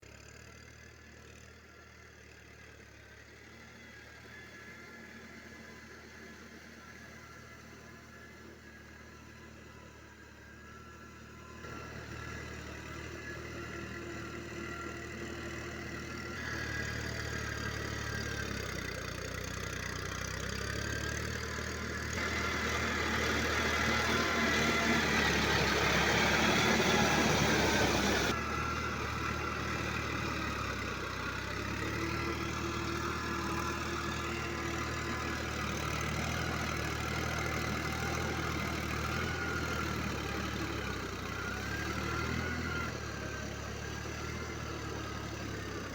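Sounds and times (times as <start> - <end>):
tractor engine running: 0.1 - 45.9.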